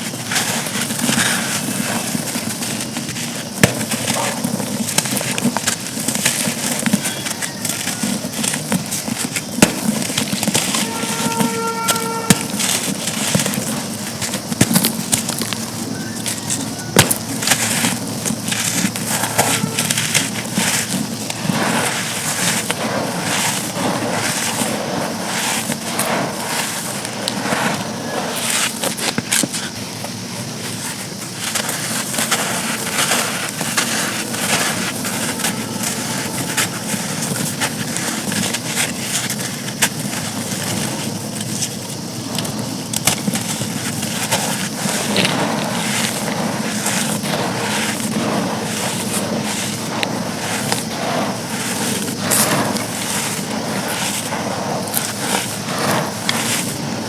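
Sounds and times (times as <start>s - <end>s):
charcoal being crushed: 0.0s - 57.0s.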